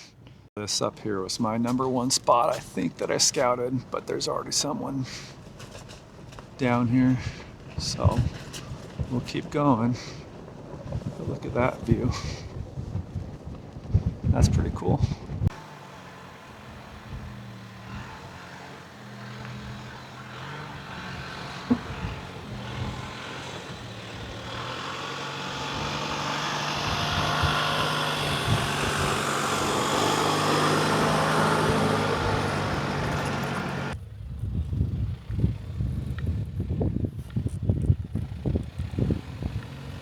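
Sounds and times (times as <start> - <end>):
tyre and road noise: 0.0 - 40.0
vehicle engine hum: 0.2 - 40.0.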